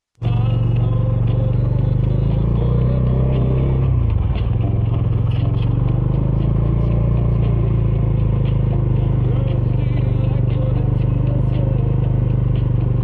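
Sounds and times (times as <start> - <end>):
motorcycle engine running: 0.2 - 13.0.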